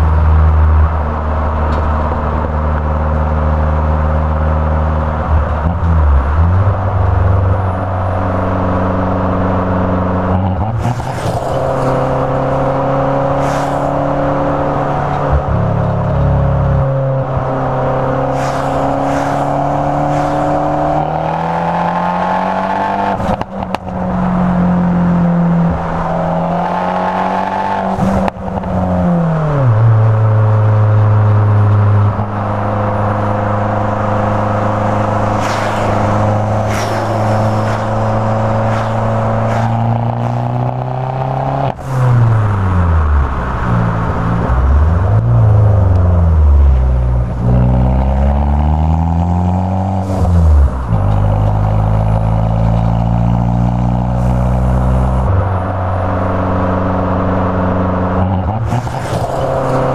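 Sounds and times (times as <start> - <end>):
car engine drone in cabin: 0.0 - 59.9.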